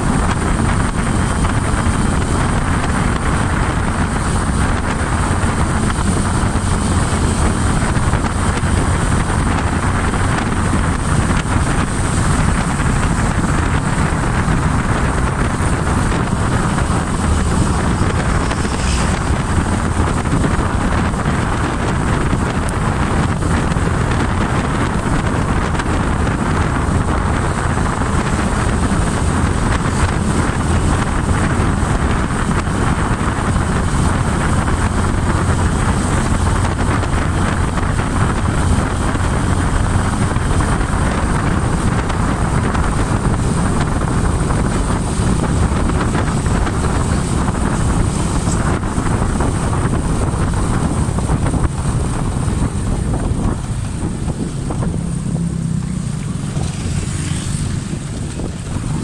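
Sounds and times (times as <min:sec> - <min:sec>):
motorcycle engine running: 0:00.0 - 0:59.0
wind on microphone: 0:00.0 - 0:59.0.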